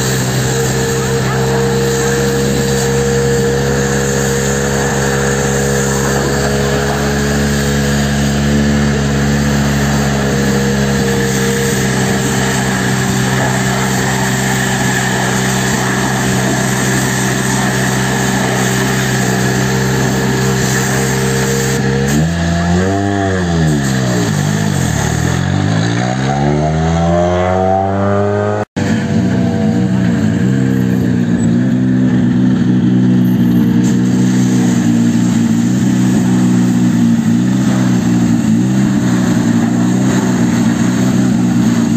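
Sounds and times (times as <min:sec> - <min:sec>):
water spray hissing on car: 0:00.0 - 0:27.1, 0:32.8 - 0:41.9
car engine: 0:00.0 - 0:41.9
pressure washer running: 0:00.0 - 0:41.9.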